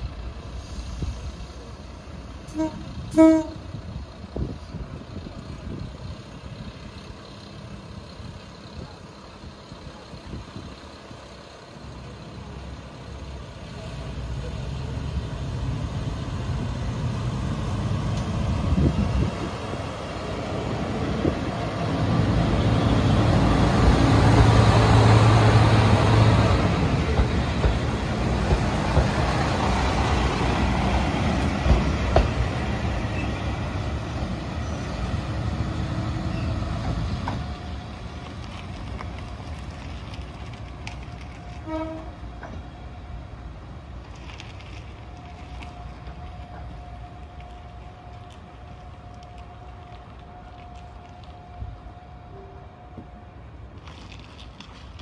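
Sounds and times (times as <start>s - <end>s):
diesel railcar engine droning: 0.0s - 55.0s.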